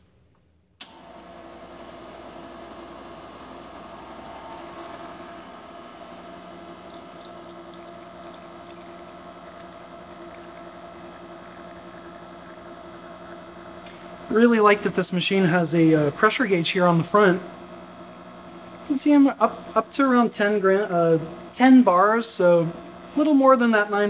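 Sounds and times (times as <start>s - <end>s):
pump humming: 0.8s - 24.0s
espresso pouring: 1.0s - 24.0s.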